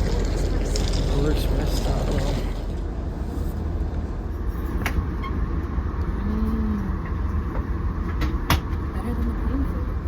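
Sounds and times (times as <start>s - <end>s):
moving vehicle rumble: 0.0s - 10.0s.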